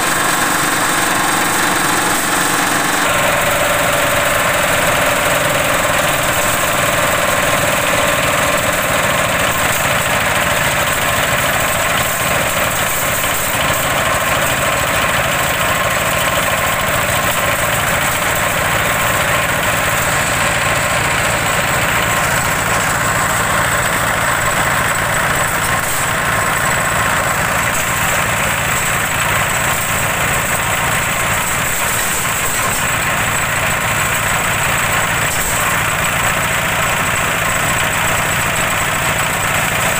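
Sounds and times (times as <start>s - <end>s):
chopper shredding waste: 0.0s - 39.9s
small engine running steadily: 0.0s - 39.9s.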